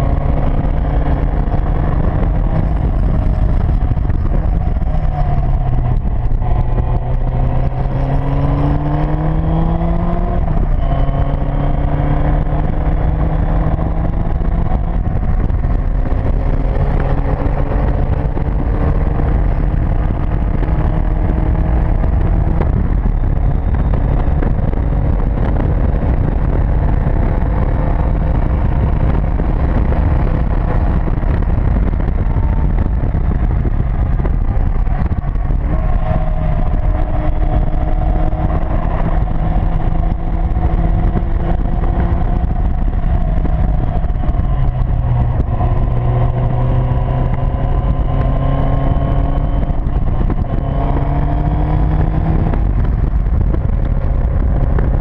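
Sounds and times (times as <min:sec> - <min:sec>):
sports car engine running: 0:00.0 - 0:55.0
wind rumble on microphone: 0:00.0 - 0:55.0.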